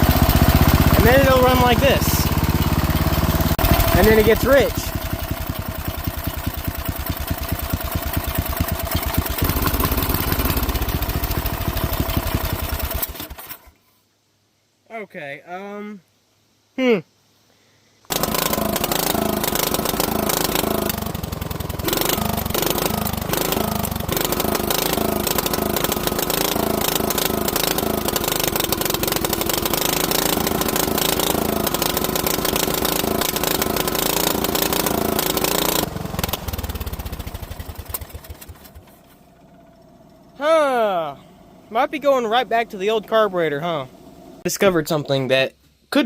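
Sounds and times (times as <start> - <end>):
lawnmower engine surging: 0.0 - 13.7, 18.1 - 44.7.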